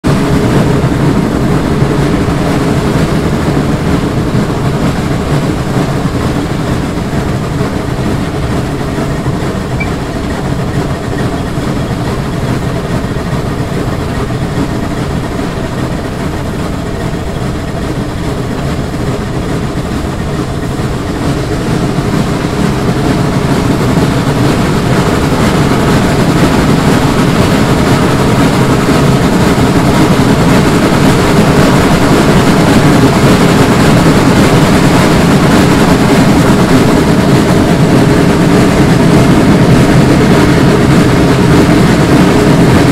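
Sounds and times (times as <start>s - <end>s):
steam locomotive chugging: 0.1s - 42.9s.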